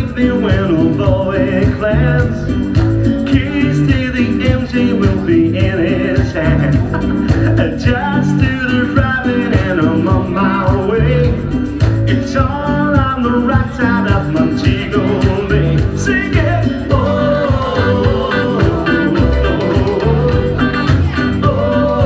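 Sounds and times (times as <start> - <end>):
bass: 0.0 - 22.0
guitar: 0.0 - 22.0
person singing: 0.0 - 22.0
steady beat: 0.0 - 22.0.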